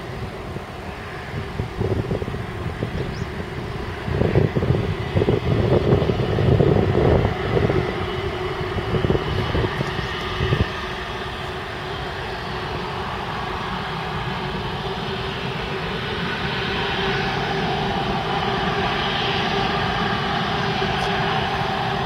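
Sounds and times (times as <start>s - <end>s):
jet engines whining: 0.0s - 22.0s
wind gusts on microphone: 0.0s - 22.0s.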